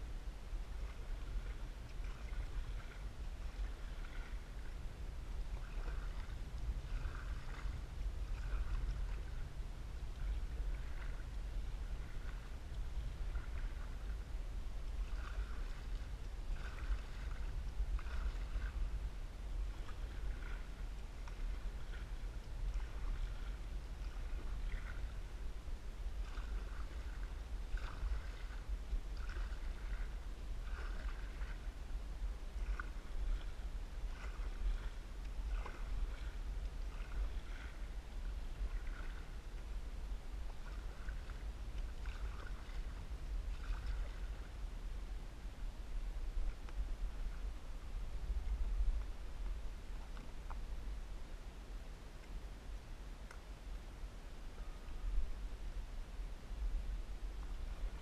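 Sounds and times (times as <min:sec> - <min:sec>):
water splashing against hull: 0:00.0 - 0:51.4, 0:56.8 - 0:58.0
paddle splashing water: 0:00.0 - 0:58.0
steady low rumble: 0:00.0 - 0:58.0.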